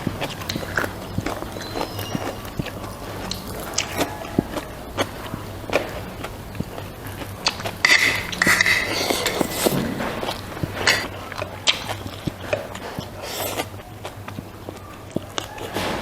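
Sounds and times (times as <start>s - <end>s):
biting and chewing crunches: 0.0s - 16.0s
low steady hum: 0.0s - 16.0s.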